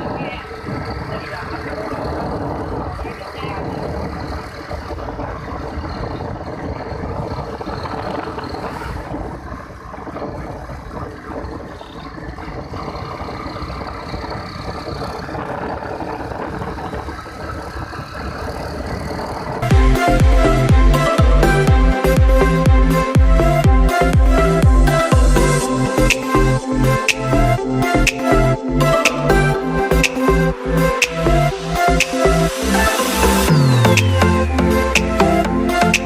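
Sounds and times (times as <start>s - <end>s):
motorcycle engine cruising: 0.0s - 36.0s
wind and road rush: 0.0s - 36.0s.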